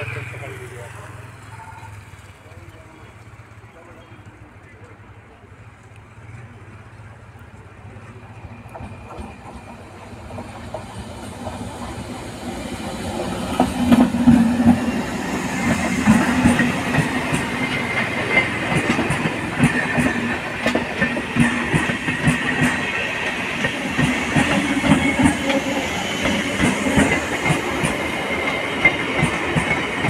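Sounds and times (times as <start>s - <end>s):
train passing close by: 0.0s - 30.0s.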